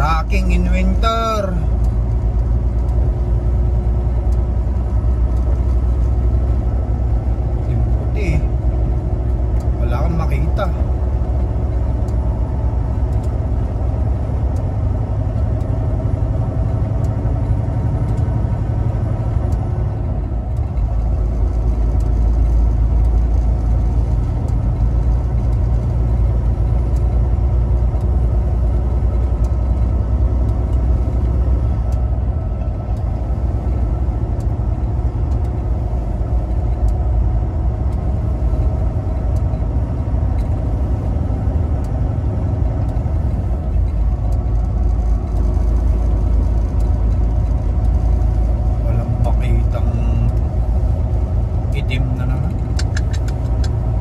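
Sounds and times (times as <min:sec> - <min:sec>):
truck diesel engine and tyres droning: 0:00.0 - 0:54.0.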